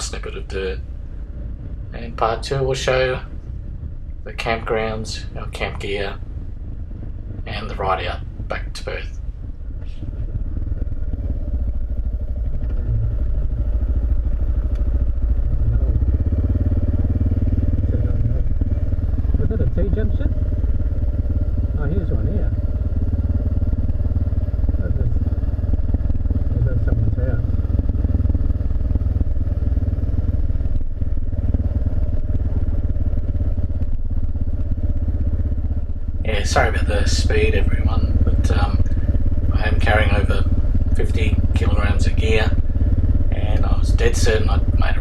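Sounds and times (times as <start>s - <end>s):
motorcycle engine running under load: 0.0s - 45.0s.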